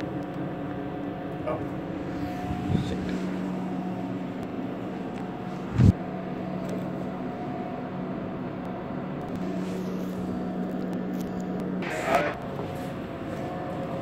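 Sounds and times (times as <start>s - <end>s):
machinery hum: 0.0s - 14.0s.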